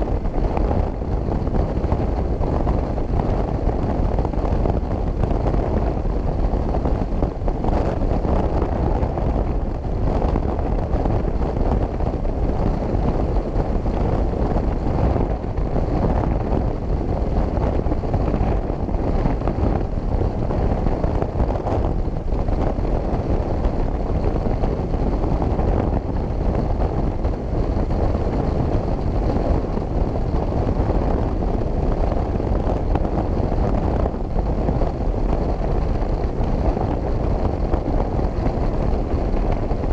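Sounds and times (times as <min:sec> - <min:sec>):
motorcycle engine drone: 0:00.0 - 0:39.9
wind rush over microphone: 0:00.0 - 0:39.9.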